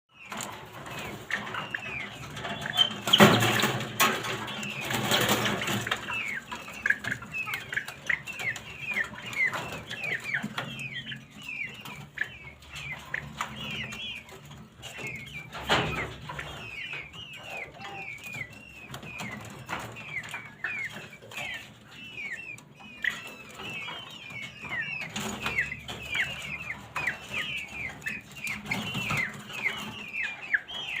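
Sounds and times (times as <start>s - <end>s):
chicks peeping: 0.1s - 31.0s.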